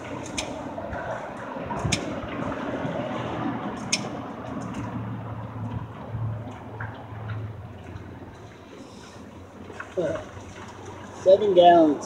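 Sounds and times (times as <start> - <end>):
engine running at low revs: 0.0 - 11.2.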